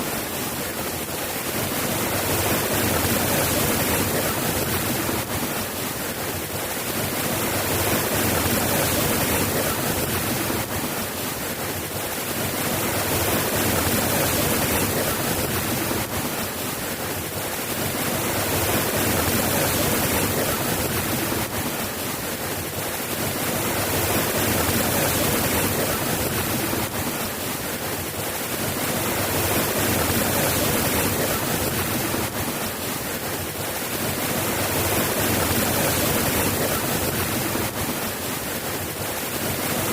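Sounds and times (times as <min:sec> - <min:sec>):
soft steady rain: 0:00.0 - 0:39.9.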